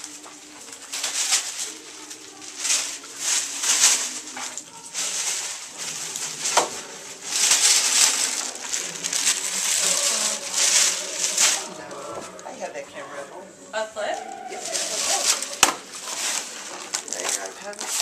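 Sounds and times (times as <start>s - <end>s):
plastic bags rustling: 0.0s - 18.0s.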